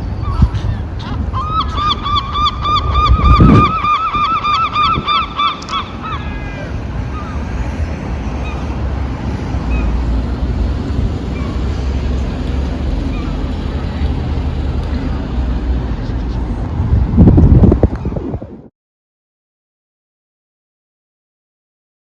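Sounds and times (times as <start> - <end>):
low wind rumble on microphone: 0.0 - 18.7.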